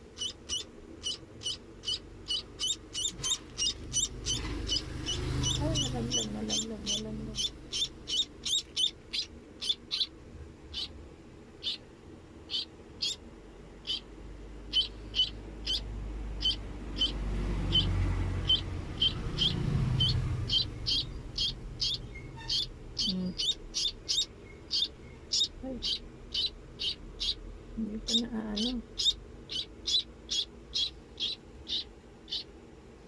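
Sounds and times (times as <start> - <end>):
baby bird chirping: 0.0 - 11.0, 11.6 - 32.5.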